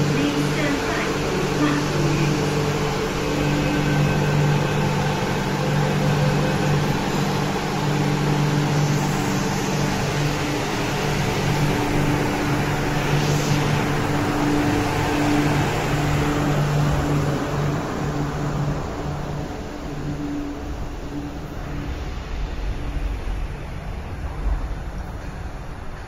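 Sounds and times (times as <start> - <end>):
electric train hum: 0.0 - 26.0
train rolling noise: 0.0 - 26.0.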